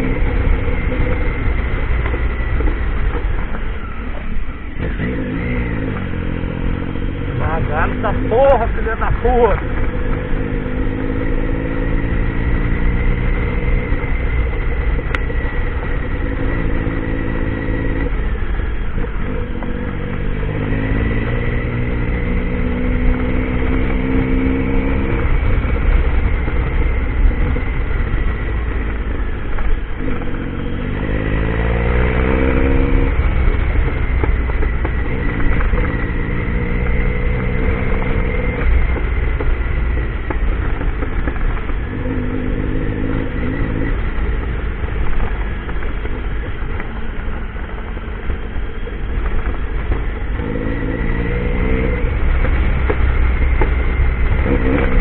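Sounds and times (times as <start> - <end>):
low rumble of wind: 0.0 - 55.0
motorcycle engine revving: 0.0 - 55.0.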